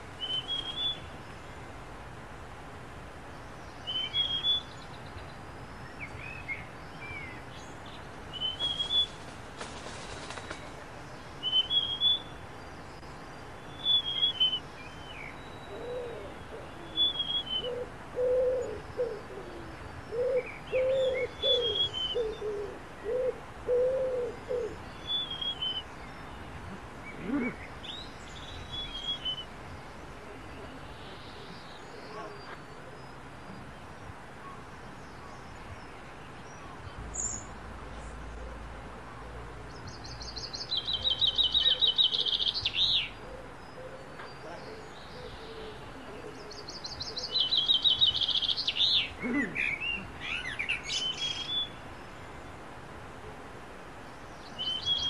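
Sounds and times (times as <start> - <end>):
high chirping birdsong: 0.0 - 2.4, 3.0 - 9.4, 10.0 - 53.1, 53.8 - 55.0.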